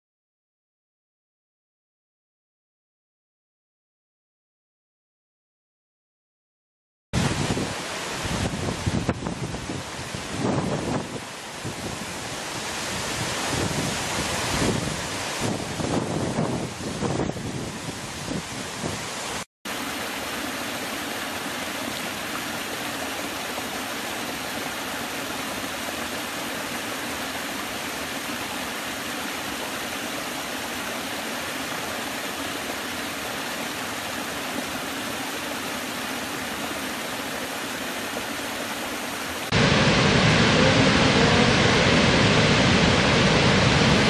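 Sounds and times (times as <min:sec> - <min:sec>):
big waterfall rushing: 0:07.2 - 0:44.0
stream rushing over rocks: 0:07.2 - 0:44.0.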